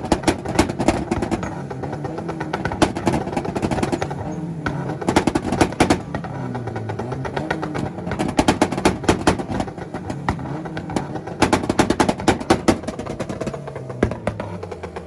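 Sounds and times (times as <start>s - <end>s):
car engines revving: 0.0s - 15.0s
exhaust pops and bangs: 0.0s - 15.0s.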